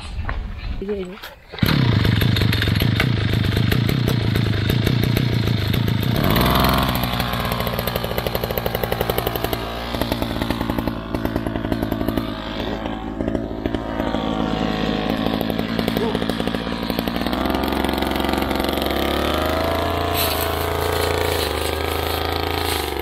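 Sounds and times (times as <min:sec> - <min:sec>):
brush cutter cutting grass: 0:01.3 - 0:23.0.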